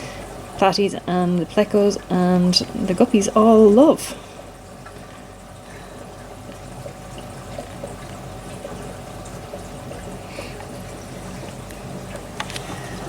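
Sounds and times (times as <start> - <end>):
low steady hum: 0.0 - 13.0
water trickling: 0.0 - 13.0.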